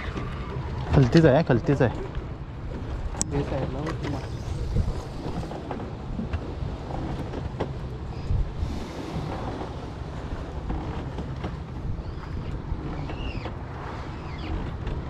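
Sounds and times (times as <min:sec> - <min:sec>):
boat engine rumbling: 0:00.0 - 0:15.0
wind on microphone: 0:02.9 - 0:15.0.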